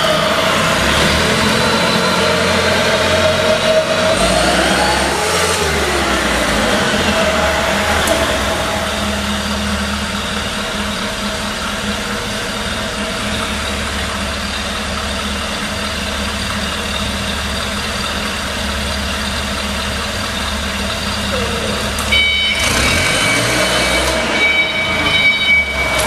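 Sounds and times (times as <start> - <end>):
forklift engine humming: 0.0 - 26.0.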